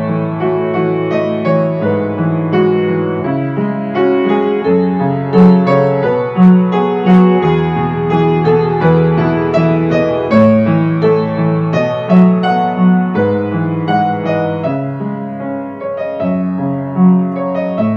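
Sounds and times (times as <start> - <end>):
piano music: 0.0 - 17.9.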